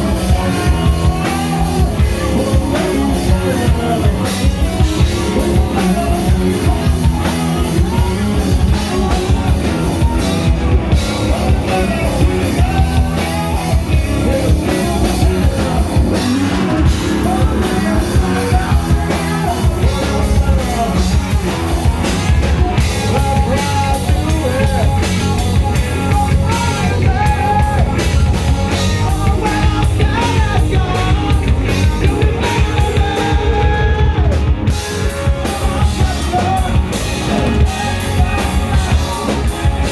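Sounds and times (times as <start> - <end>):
drum kit beat: 0.0 - 39.9
rock band playing live: 0.0 - 39.9.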